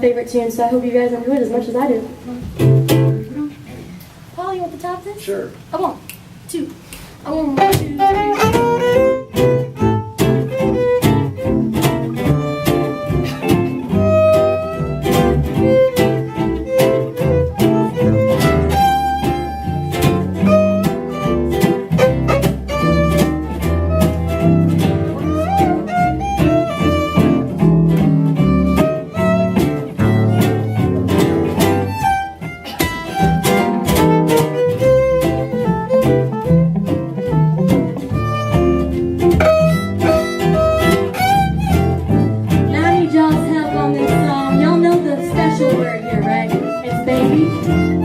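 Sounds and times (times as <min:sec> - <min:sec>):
bass: 0:00.0 - 0:48.0
strummed rhythm guitar: 0:00.0 - 0:48.0
fiddles playing melody: 0:07.6 - 0:48.0.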